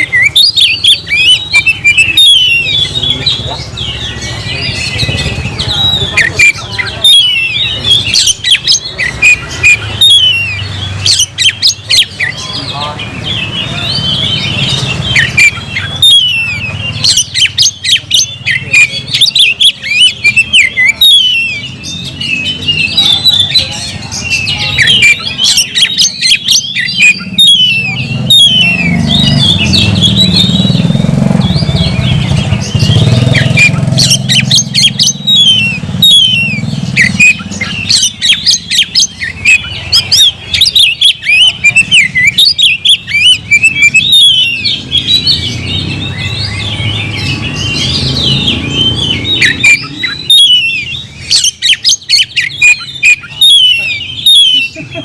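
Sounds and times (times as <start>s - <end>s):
bird singing chirps and whistles: 0.0s - 55.0s.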